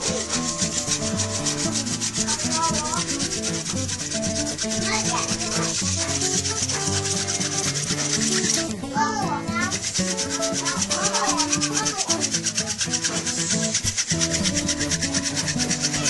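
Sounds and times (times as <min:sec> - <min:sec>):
wooden spindle rasping on wood: 0:00.0 - 0:16.0.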